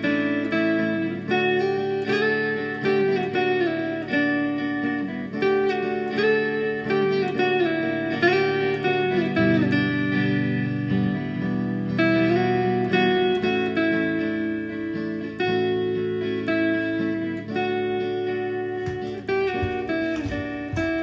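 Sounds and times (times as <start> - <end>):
plucked guitar melody: 0.0 - 21.0.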